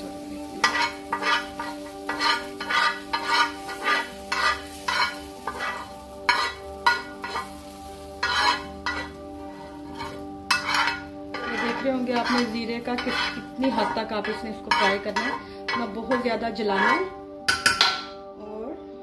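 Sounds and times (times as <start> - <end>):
oil sizzling: 0.0 - 18.2
metal spoon scraping a pan: 0.6 - 18.2.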